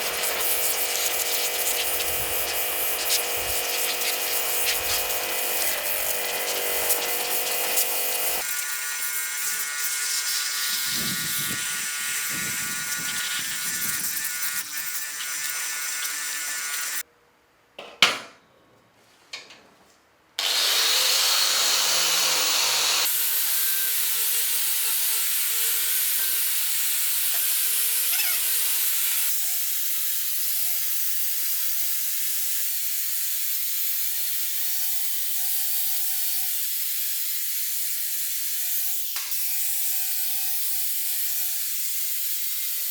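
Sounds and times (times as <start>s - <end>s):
power tool rasping on metal: 0.0s - 17.0s, 20.4s - 42.9s.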